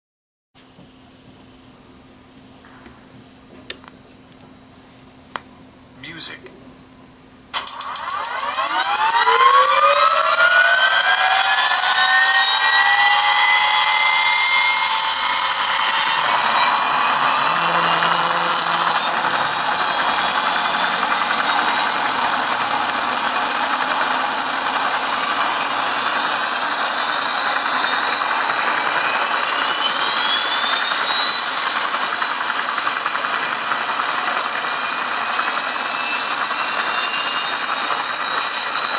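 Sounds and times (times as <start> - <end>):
simulated jet turbine whine: 6.0 - 38.9.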